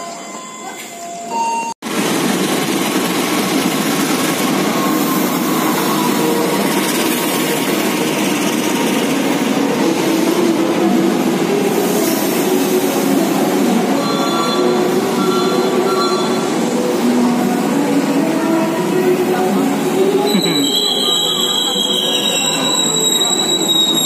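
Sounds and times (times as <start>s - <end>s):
train rumbling and rattling: 1.9s - 24.0s.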